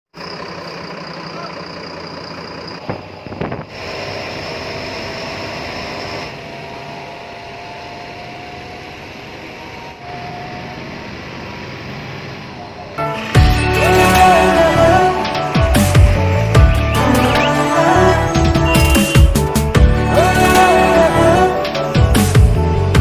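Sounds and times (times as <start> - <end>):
bus engine running: 0.1 - 23.0.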